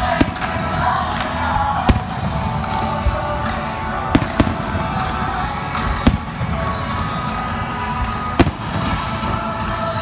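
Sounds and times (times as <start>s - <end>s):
fireworks bursting with bangs: 0.0s - 10.0s
music: 0.0s - 10.0s.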